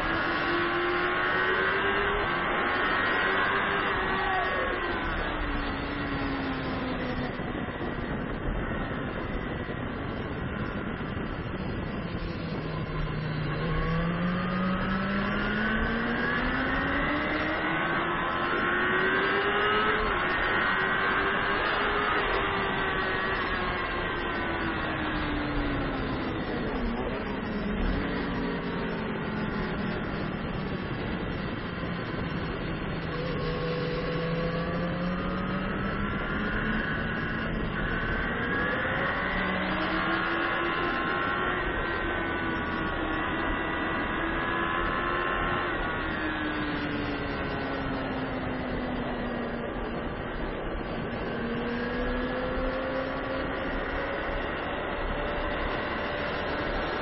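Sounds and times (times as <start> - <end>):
motorcycle engine revving: 0.0 - 11.2, 11.8 - 57.0.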